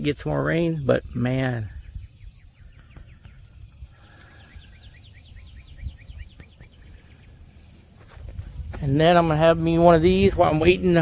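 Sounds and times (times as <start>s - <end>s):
bird chirping rapidly: 0.0s - 11.0s.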